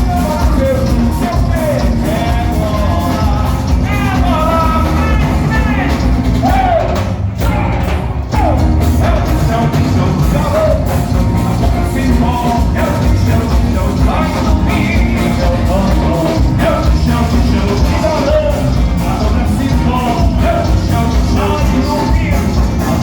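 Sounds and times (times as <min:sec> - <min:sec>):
heavy low beat: 0:00.0 - 0:23.0
live band music: 0:00.0 - 0:23.0
person singing: 0:00.0 - 0:23.0.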